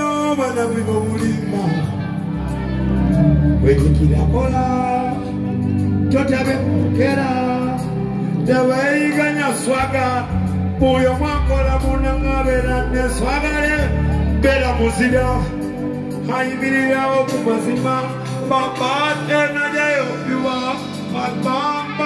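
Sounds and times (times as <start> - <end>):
backing track with deep bass: 0.0 - 22.0
man singing: 0.0 - 22.0.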